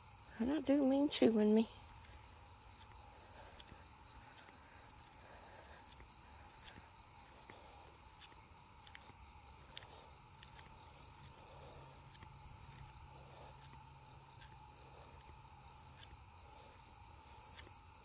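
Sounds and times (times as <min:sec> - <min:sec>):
insects trilling: 0:00.0 - 0:18.0
low insect drone: 0:00.0 - 0:18.0
faint ticks: 0:01.6 - 0:17.8.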